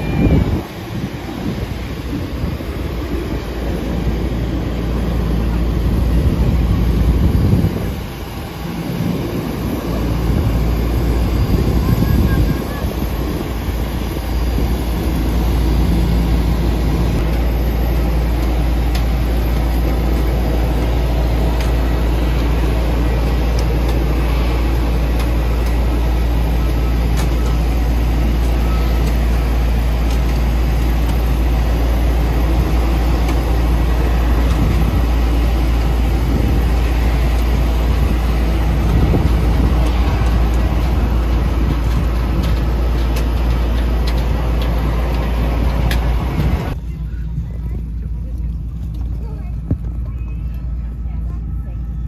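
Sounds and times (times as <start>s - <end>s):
airport apron rumble: 0.0s - 52.0s.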